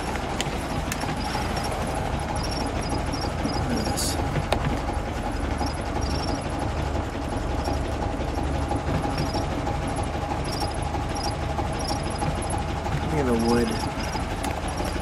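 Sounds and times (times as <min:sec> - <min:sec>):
car engine idling: 0:00.0 - 0:15.0
light ticking: 0:00.0 - 0:15.0.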